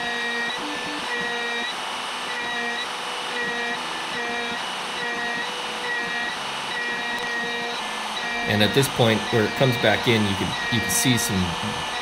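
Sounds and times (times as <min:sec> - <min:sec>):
pitched whine: 0:00.0 - 0:12.0.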